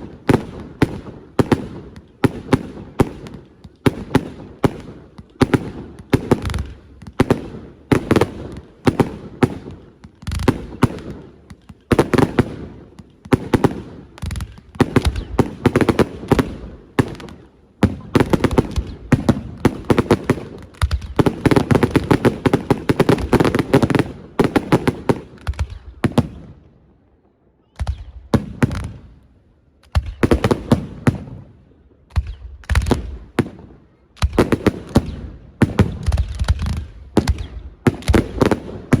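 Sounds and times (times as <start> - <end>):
fireworks bursts and cracks: 0.0 - 26.7, 27.8 - 39.0.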